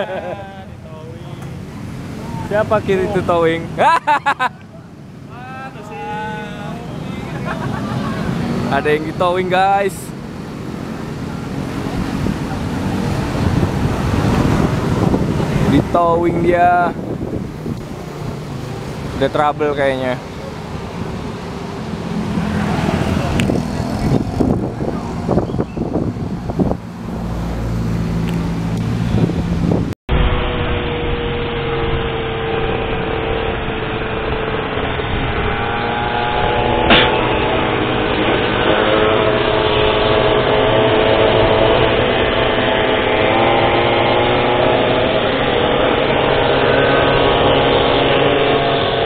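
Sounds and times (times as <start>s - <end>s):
two-stroke scooter engines running: 0.0s - 27.1s, 30.6s - 49.0s
motorcycles passing: 0.0s - 49.0s.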